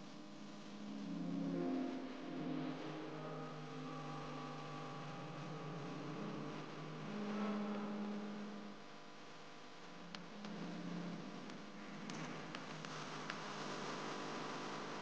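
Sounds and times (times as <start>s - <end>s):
soft humming background music: 0.0s - 15.0s.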